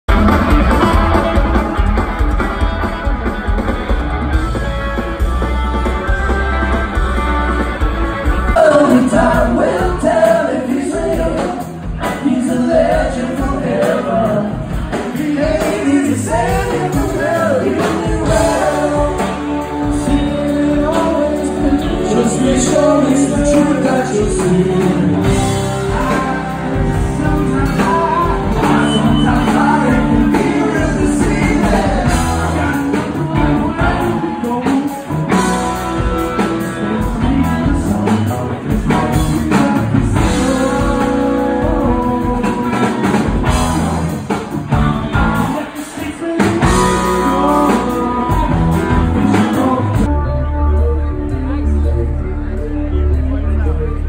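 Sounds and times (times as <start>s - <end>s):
live rock band playing: 0.0s - 54.0s
person singing: 8.4s - 54.0s.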